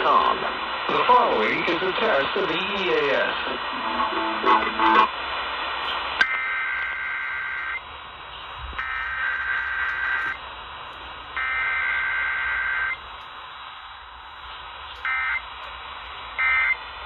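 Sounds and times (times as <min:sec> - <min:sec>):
radio hiss: 0:00.0 - 0:17.0.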